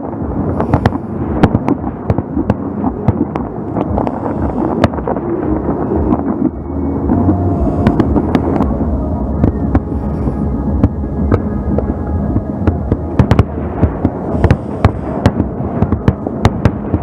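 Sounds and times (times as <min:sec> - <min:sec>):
rumble of fireworks bursts: 0:00.0 - 0:17.0.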